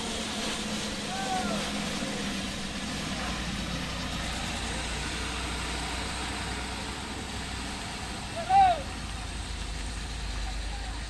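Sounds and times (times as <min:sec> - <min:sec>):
bus engine humming: 0:00.0 - 0:11.0.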